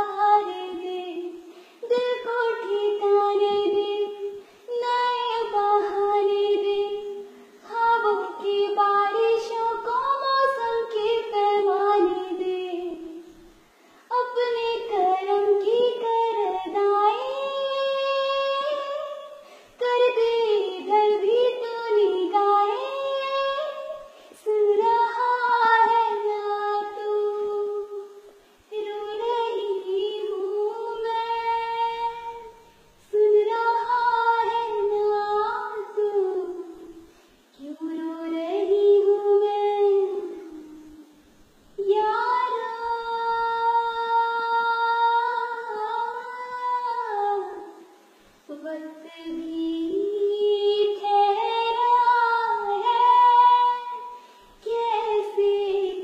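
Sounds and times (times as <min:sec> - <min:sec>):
girl singing unaccompanied: 0:00.0 - 0:56.0.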